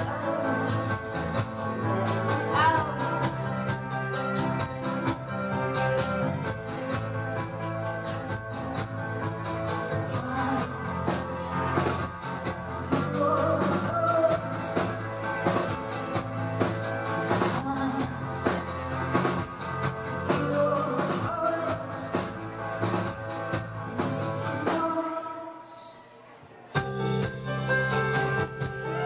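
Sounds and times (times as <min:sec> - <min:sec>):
live band playing pop-rock: 0:00.0 - 0:25.5, 0:26.7 - 0:29.0.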